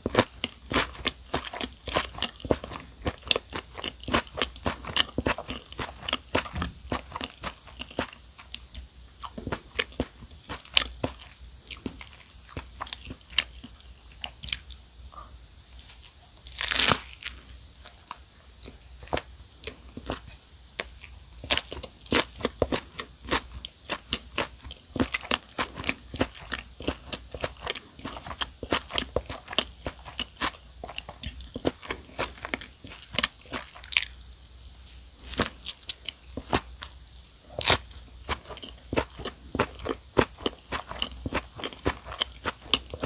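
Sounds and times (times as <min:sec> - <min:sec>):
close-up chewing with moist crunching: 0:00.0 - 0:14.8, 0:15.8 - 0:34.4, 0:35.2 - 0:43.0.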